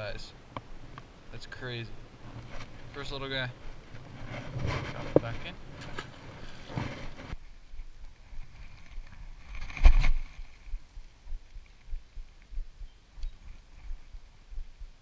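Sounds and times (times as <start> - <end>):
wind and handling thumps: 2.2 - 15.0.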